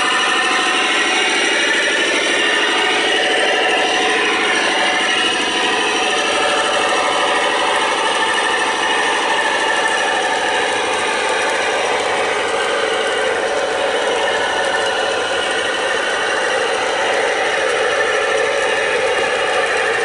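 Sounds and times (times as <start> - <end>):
model train running with rattling: 0.0 - 20.0.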